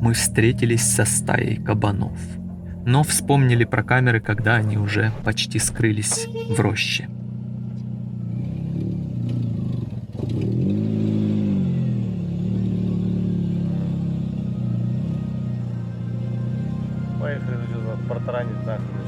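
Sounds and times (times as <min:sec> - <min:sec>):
car engine revving: 0:00.0 - 0:18.1.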